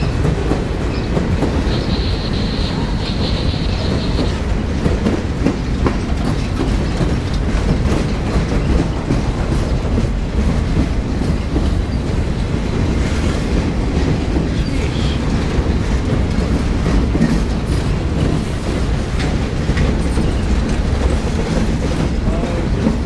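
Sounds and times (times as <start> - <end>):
train wheels rumbling on rail: 0.0 - 23.0
wheels clacking over rail joints: 0.0 - 23.0.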